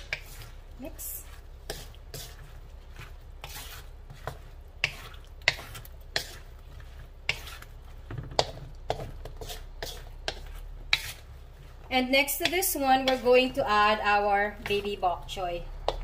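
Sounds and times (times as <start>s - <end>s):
spatula scraping metal wok: 0.0s - 16.0s.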